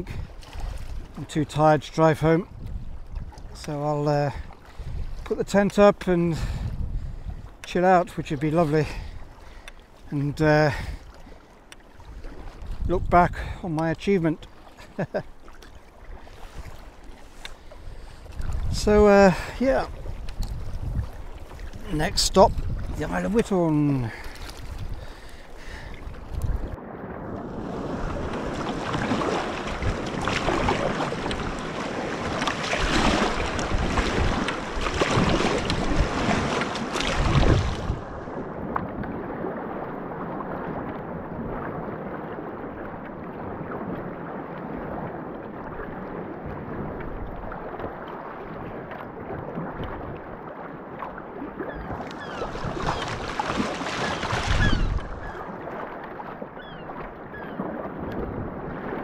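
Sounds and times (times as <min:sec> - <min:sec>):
wind on microphone: 0:00.0 - 0:01.3, 0:02.4 - 0:07.6, 0:11.9 - 0:13.6, 0:16.0 - 0:50.6, 0:51.4 - 0:59.0
paddle strokes: 0:00.0 - 0:59.0
water splashing against hull: 0:00.0 - 0:59.0.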